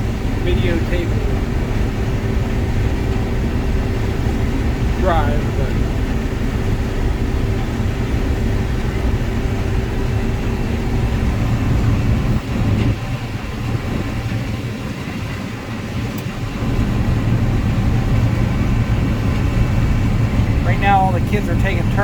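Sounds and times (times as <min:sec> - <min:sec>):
combine harvester drone: 0:00.0 - 0:22.0.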